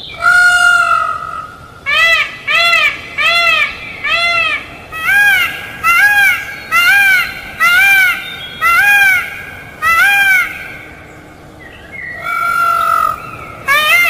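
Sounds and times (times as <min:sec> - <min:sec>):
peafowl calling: 0:00.0 - 0:11.1, 0:11.8 - 0:14.0.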